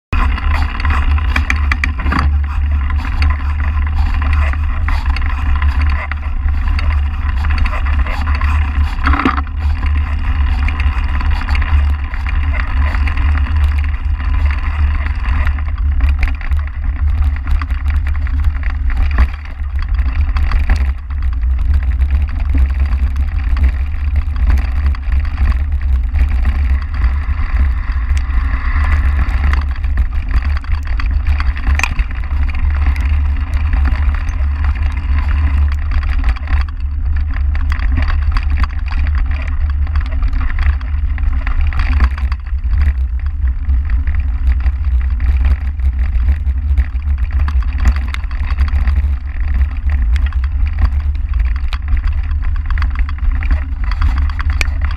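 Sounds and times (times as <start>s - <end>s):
bike rattling and knocking: 0.0s - 54.9s
wind rumble on microphone: 0.0s - 54.9s.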